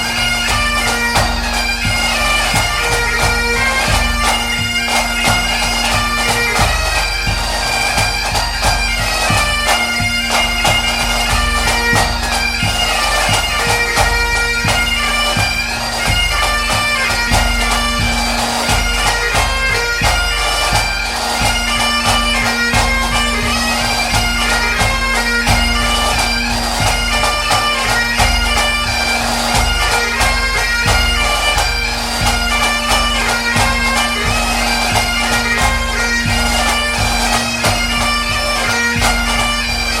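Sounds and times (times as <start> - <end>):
bagpipe music: 0.0 - 40.0.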